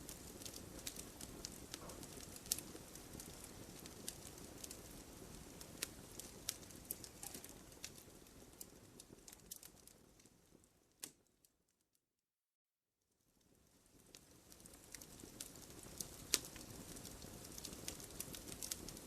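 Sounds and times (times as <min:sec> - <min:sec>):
low rumble of flames: 0:00.0 - 0:11.0, 0:13.4 - 0:19.0
fire crackling and popping: 0:00.0 - 0:11.5, 0:13.2 - 0:19.0.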